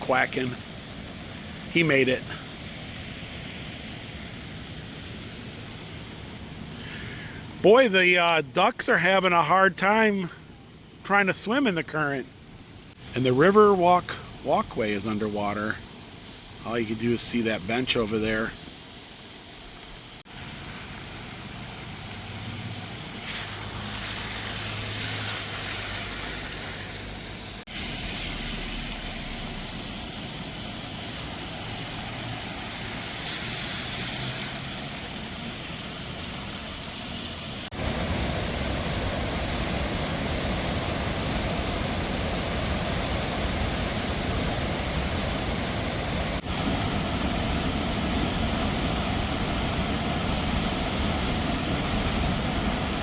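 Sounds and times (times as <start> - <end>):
river rushing: 0.0 - 10.2, 13.0 - 53.0.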